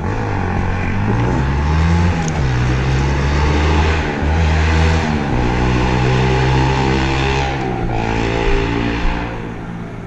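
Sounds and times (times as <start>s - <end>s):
motor engine revving: 0.0s - 9.8s.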